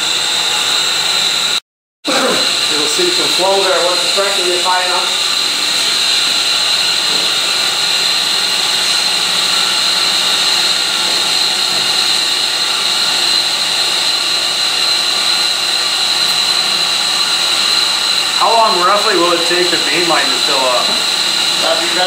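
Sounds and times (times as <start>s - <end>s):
electric pump motor drone: 0.0s - 22.0s
high-pitched motor whine: 0.0s - 22.0s.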